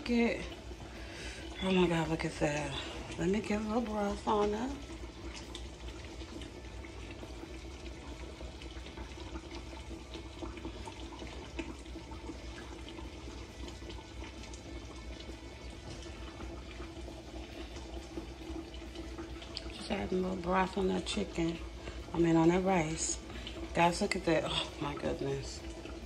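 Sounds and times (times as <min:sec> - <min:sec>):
broth pouring: 0:00.0 - 0:26.0
low steady hum: 0:00.0 - 0:26.0.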